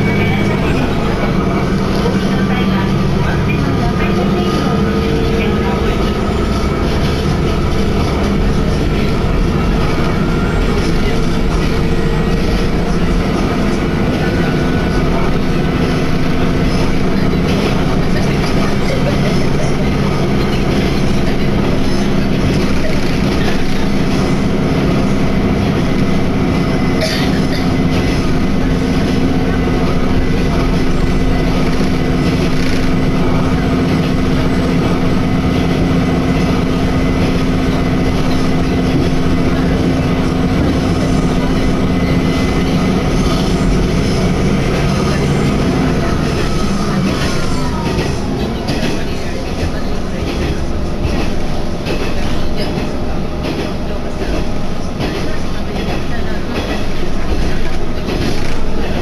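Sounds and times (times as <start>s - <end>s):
railcar engine drone: 0.0s - 59.0s
wheels rumbling on track: 0.0s - 59.0s.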